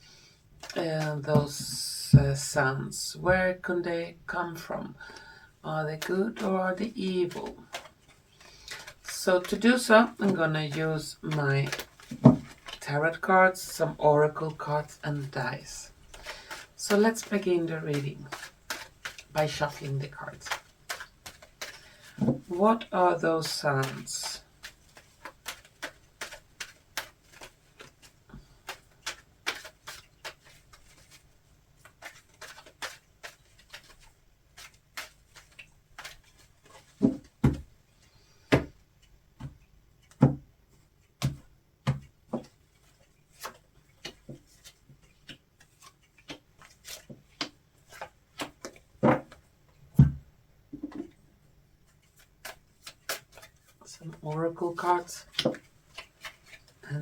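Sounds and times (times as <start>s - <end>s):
cards being shuffled: 0.6s - 1.7s, 6.0s - 49.5s, 51.9s - 57.0s.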